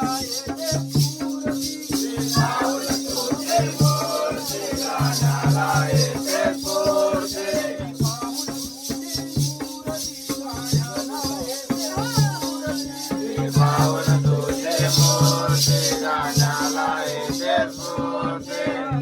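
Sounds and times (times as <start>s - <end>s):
fast metallic jingling: 0.0s - 19.0s
low drum beat: 0.0s - 19.0s
man singing: 0.0s - 19.0s.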